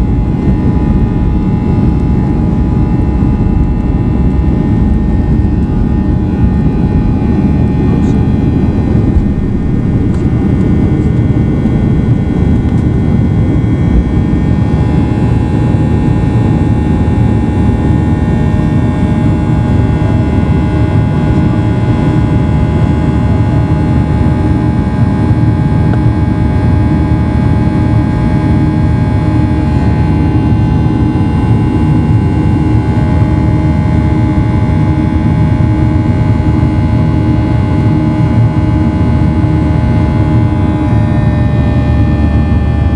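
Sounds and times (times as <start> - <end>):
jet engines roaring at high thrust: 0.0 - 42.9
whining engine tones: 0.0 - 42.9.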